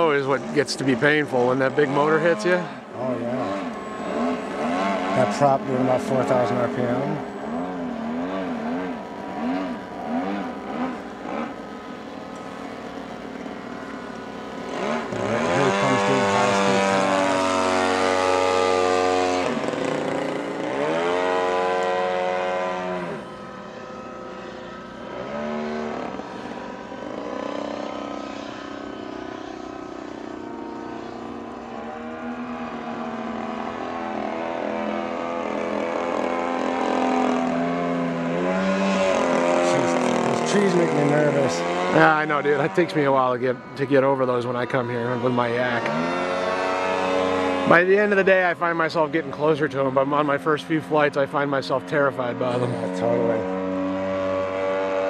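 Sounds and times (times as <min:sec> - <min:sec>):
model airplane engine: 0:00.0 - 0:55.0.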